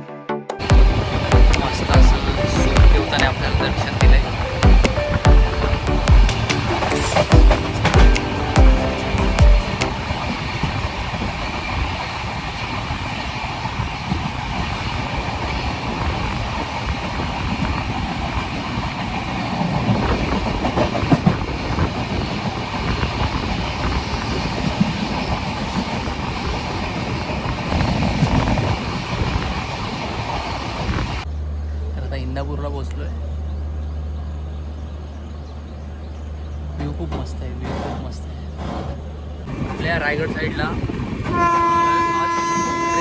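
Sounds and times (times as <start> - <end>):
train rumbling along track: 0.6 - 43.0
wheels clattering over rail joints: 0.7 - 31.3, 32.8 - 40.9.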